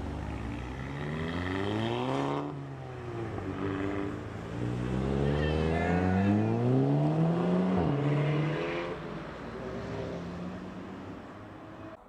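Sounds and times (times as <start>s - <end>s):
car accelerating away: 0.0s - 12.0s.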